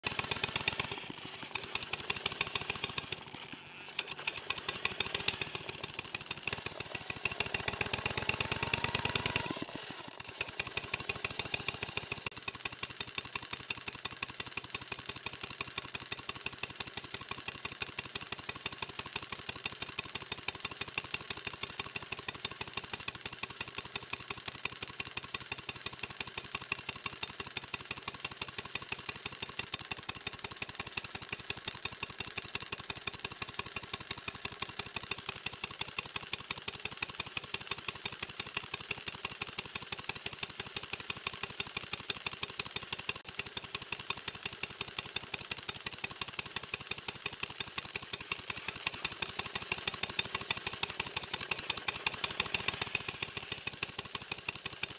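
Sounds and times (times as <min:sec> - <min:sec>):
model steam engine puffing: 0:00.0 - 0:54.9.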